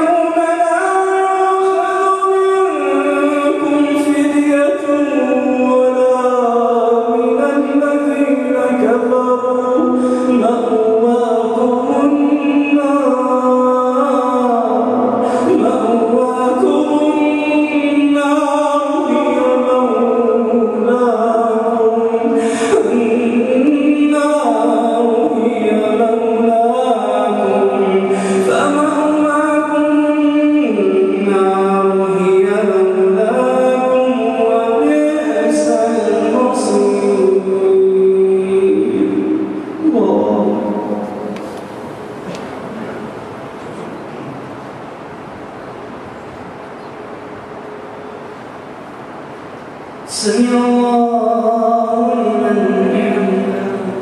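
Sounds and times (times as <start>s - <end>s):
man chanting melodically: 0.0s - 44.7s, 50.0s - 54.0s.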